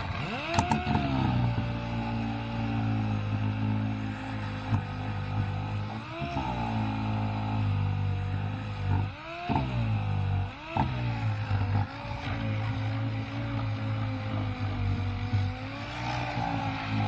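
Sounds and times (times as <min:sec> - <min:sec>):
electric sander running: 0:00.0 - 0:17.0.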